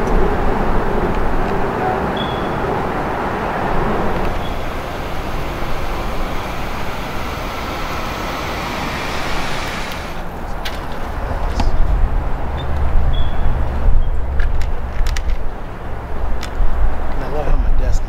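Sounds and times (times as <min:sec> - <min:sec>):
passing cars: 0:00.0 - 0:18.0.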